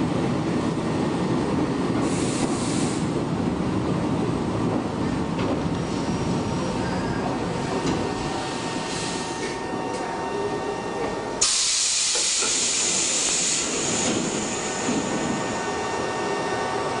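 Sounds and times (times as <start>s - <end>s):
electric train running slowly: 0.0s - 17.0s.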